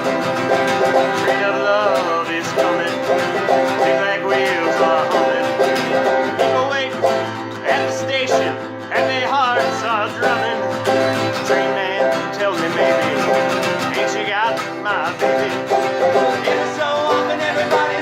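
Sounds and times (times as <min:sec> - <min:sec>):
banjo picking country tune: 0:00.0 - 0:18.0.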